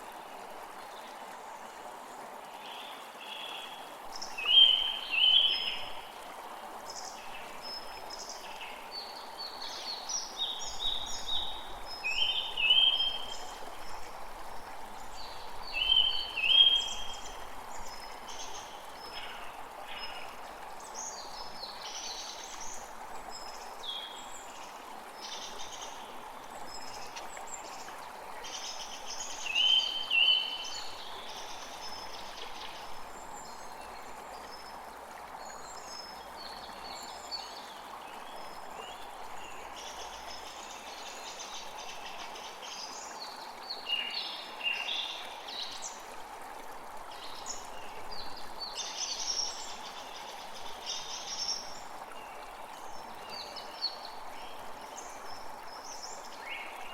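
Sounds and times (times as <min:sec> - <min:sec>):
creek water flowing: 0:00.0 - 0:56.9.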